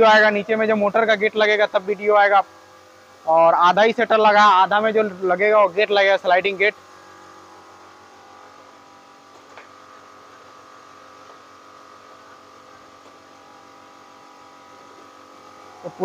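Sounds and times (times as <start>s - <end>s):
shutter motor humming: 0.0s - 16.0s.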